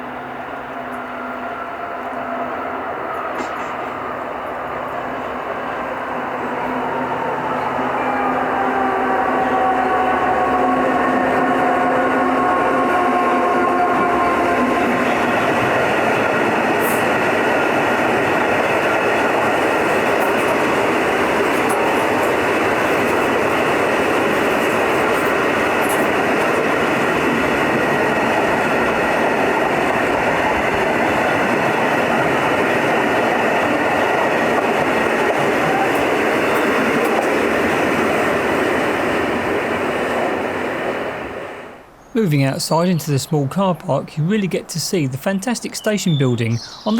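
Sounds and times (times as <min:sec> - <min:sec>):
freight train passing: 0:00.0 - 0:46.9
wagons rumbling over track: 0:00.0 - 0:46.9.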